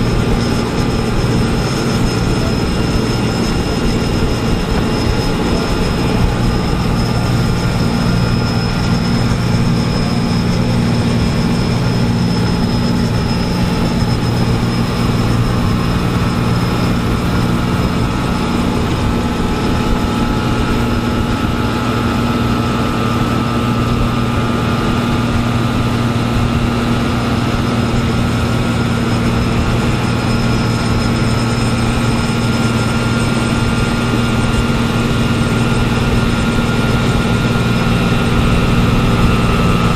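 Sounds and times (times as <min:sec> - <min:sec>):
diesel machinery engine hum: 0:00.0 - 0:39.9
high whine: 0:00.0 - 0:39.9.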